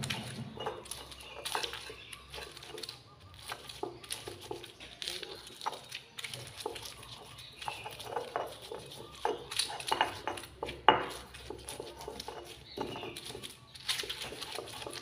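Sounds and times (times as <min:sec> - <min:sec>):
stone pestle grinding in mortar: 0:00.0 - 0:15.0.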